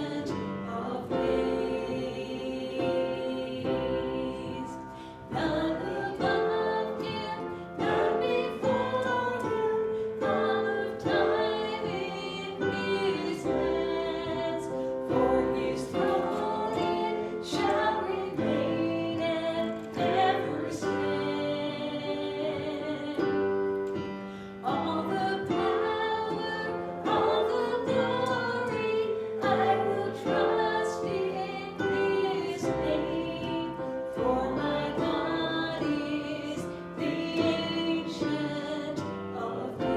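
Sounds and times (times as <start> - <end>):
instrumental accompaniment: 0.0 - 39.9
voices singing worship song: 0.0 - 39.9.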